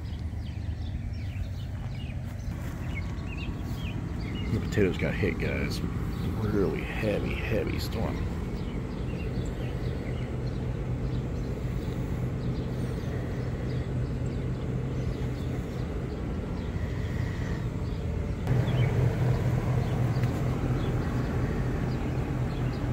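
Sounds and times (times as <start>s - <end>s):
outdoor rumble: 0.0s - 22.9s
steady low hum: 0.0s - 22.9s.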